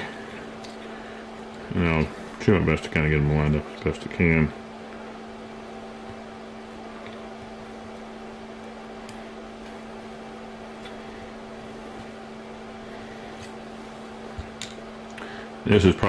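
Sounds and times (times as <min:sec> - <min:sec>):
machine hum with tones: 0:00.0 - 0:16.0.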